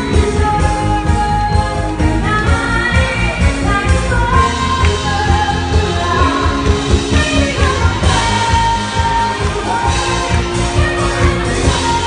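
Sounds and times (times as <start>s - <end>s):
live band playing: 0.0s - 12.0s
woman singing into microphone: 0.0s - 12.0s.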